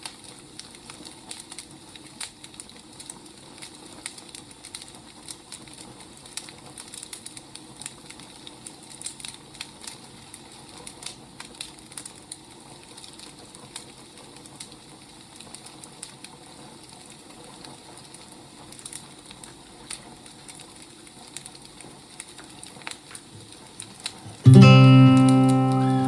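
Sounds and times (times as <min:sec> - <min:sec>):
firewood crackling: 0:00.1 - 0:26.0.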